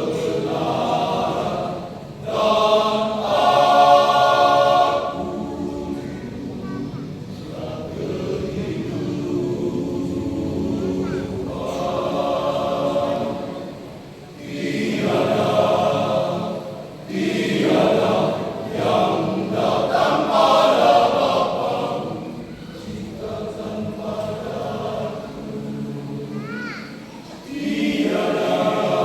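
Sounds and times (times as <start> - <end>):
men's choir singing a hymn: 0.0 - 26.4, 27.2 - 29.0.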